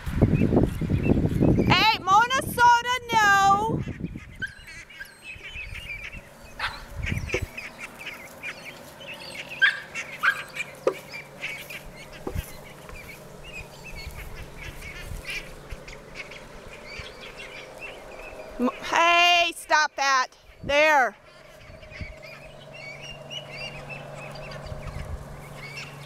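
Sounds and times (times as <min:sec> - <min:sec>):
ducklings calling: 0:00.0 - 0:26.0.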